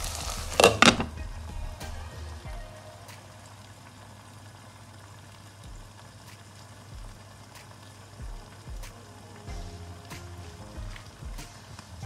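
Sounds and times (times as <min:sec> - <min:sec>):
soft sizzle and bubble: 0:00.0 - 0:12.0.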